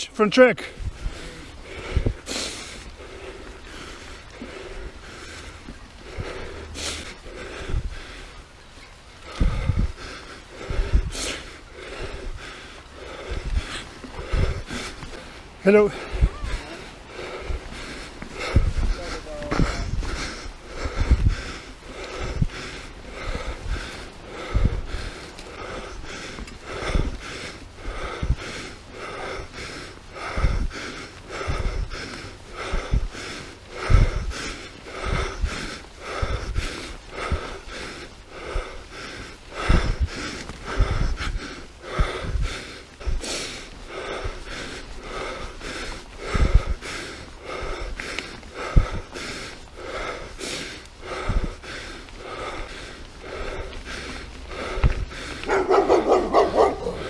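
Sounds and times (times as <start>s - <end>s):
rider breathing hard: 0.0s - 57.0s.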